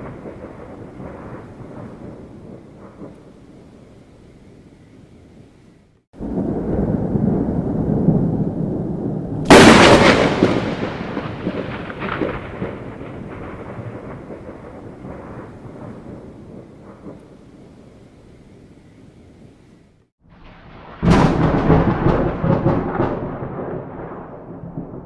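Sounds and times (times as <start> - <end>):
thunder rumble and crack: 0.0 - 3.9, 6.2 - 18.0, 20.2 - 25.0.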